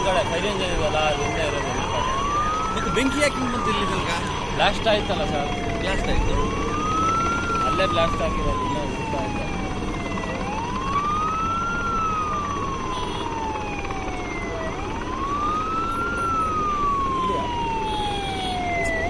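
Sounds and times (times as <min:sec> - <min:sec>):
emergency vehicle siren wailing: 0:00.0 - 0:19.0.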